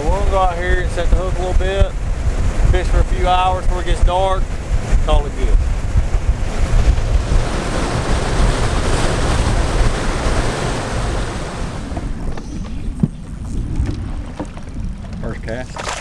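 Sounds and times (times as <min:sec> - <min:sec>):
churning wake water: 0:00.0 - 0:16.0
low engine rumble: 0:00.0 - 0:16.0
wind rushing on microphone: 0:00.0 - 0:16.0.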